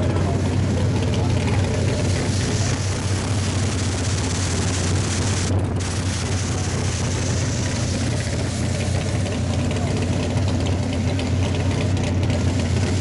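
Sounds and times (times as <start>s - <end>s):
car engine idling: 0.0s - 13.0s
nitrous purge hissing: 0.0s - 13.0s.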